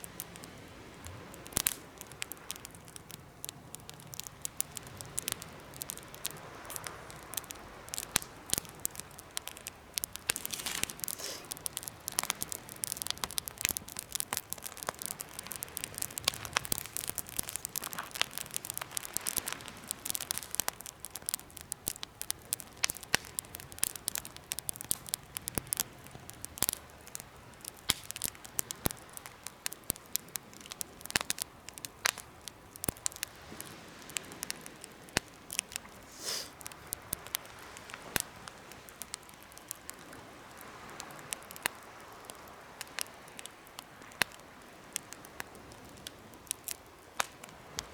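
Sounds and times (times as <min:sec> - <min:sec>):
fire hissing: 0:00.0 - 0:43.4
wood fire crackling and popping: 0:00.0 - 0:47.9.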